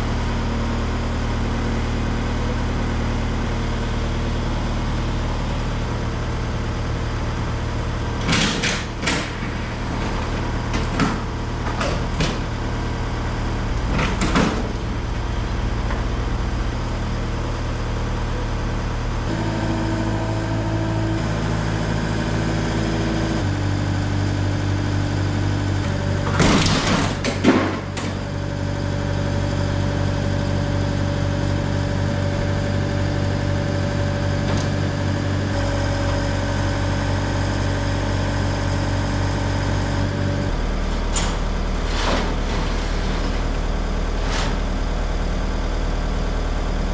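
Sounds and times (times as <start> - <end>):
engine-like hum: 0.0 - 46.9.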